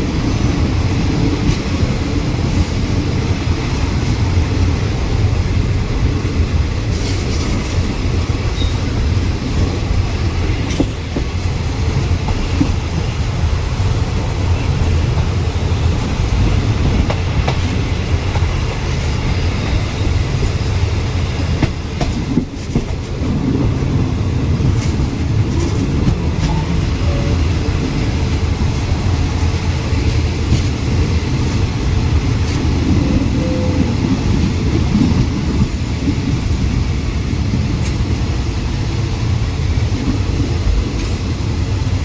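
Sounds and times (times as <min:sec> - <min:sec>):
train wheels rumbling on track: 0:00.0 - 0:42.0.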